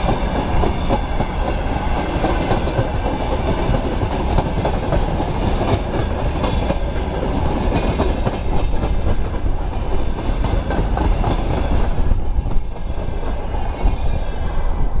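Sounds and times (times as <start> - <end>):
freight train wheels clattering: 0.0 - 13.5.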